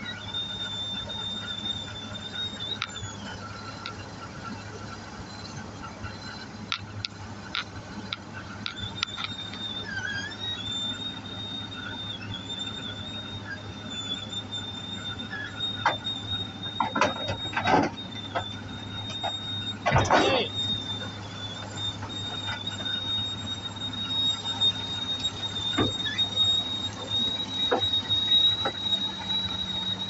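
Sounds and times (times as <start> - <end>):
excavator engine humming: 0.0 - 30.0
wavering high-pitched squeal: 0.0 - 30.0.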